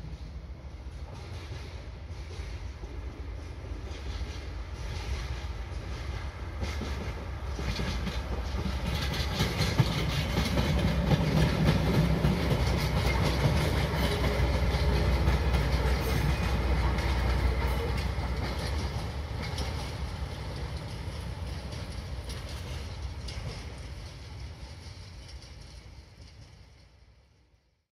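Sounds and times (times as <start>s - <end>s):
train wheels clattering over rail joints: 0.0s - 27.4s.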